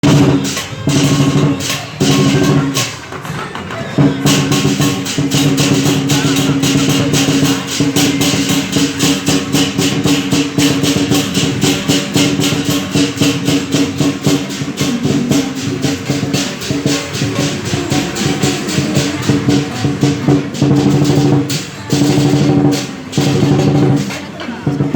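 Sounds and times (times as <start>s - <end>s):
cymbals clashing: 0.0s - 24.9s
drum beating: 0.0s - 24.9s.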